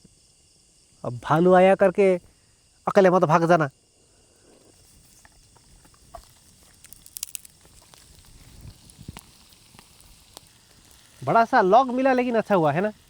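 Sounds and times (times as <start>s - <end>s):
faint hiss: 0.0s - 13.0s
campfire crackling: 1.2s - 13.0s.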